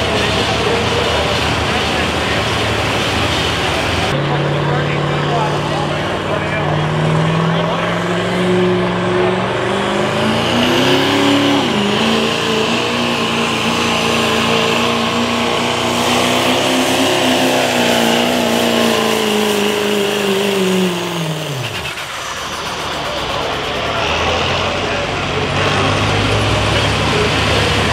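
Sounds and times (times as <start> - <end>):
diesel engine at full throttle: 0.0 - 27.9.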